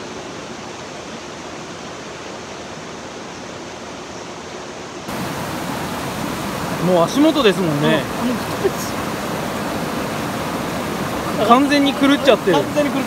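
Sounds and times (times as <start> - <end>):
river rushing over stones: 0.0 - 13.0.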